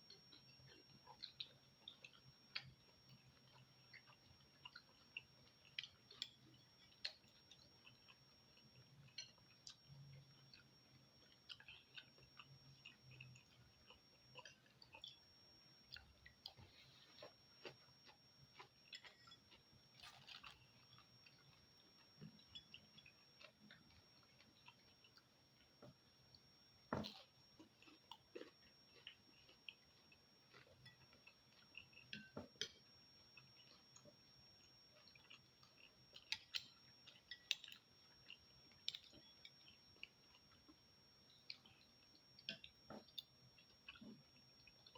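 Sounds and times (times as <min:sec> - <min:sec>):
close-up chewing: 0:00.0 - 0:44.9.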